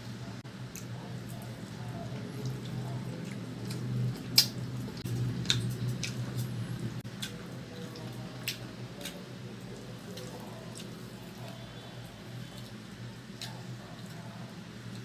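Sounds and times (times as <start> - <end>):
steady low hum: 0.0 - 15.0
person chewing wetly: 0.7 - 15.0.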